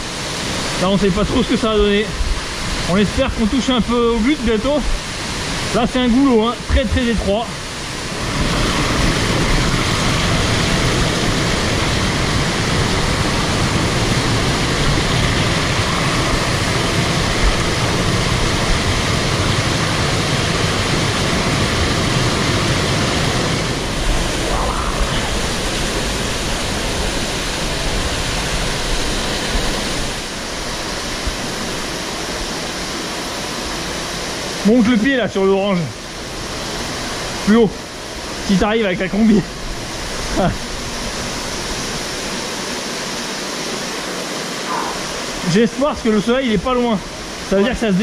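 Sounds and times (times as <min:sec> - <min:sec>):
water rushing through rocks: 0:00.0 - 0:48.0.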